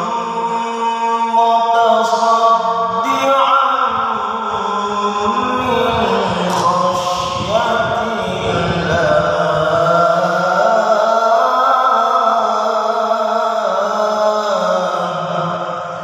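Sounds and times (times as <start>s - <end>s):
person reciting melismatic chant: 0.0s - 16.0s.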